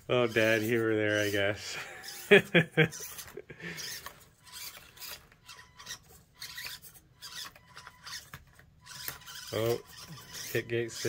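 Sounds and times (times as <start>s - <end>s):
small electric motor whirring: 0.0s - 11.0s.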